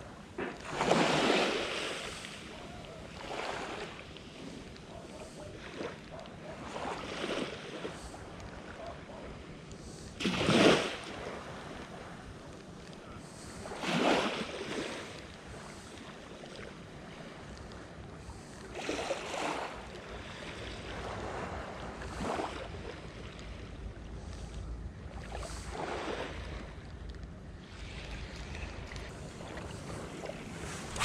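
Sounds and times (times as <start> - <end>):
small waves washing on shore: 0.0 - 31.0
wind: 0.0 - 31.0.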